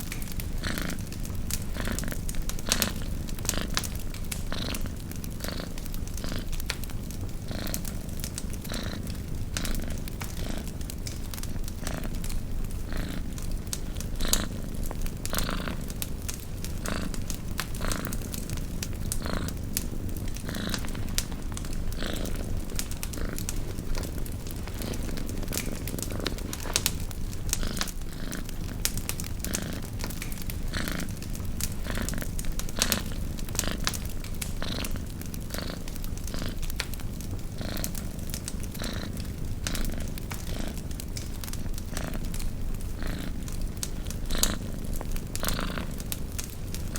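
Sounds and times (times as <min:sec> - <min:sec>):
campfire crackling: 0:00.0 - 0:46.9
cat purring: 0:00.0 - 0:46.9.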